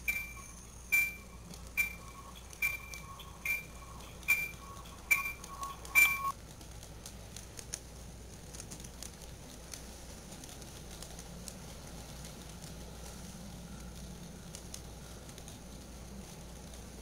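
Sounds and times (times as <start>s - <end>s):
model train rolling on track: 0.0s - 17.0s
light clicks and crackles: 0.1s - 17.0s.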